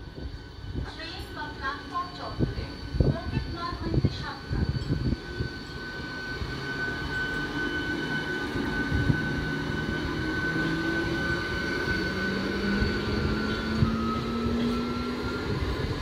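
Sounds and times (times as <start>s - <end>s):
high whine: 0.0s - 16.0s
low hum: 0.0s - 16.0s
train wheels rumbling on rail: 0.0s - 16.0s.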